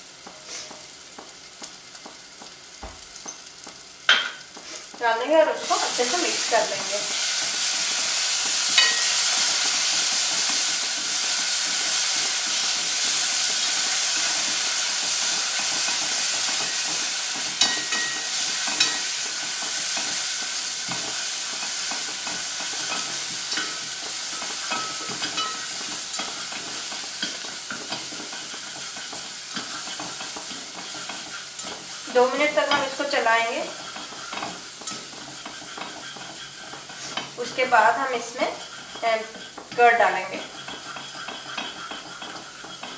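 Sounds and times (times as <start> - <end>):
paste sizzling in oil: 0.0 - 42.9
spatula scraping pot: 4.5 - 42.9.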